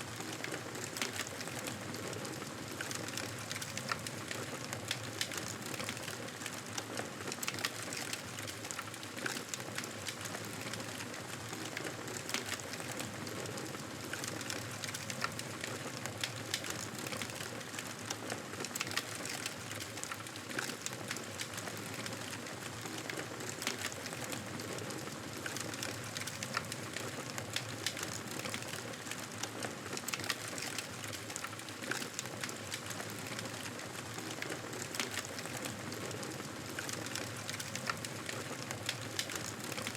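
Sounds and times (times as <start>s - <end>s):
wood fire crackling: 0.1s - 39.9s.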